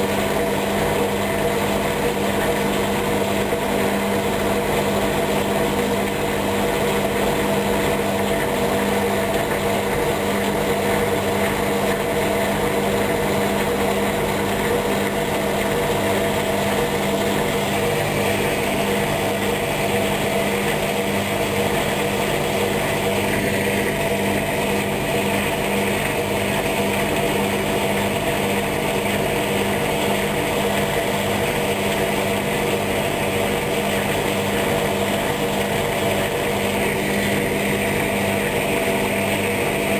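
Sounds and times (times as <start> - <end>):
washing machine motor humming: 0.0 - 39.9.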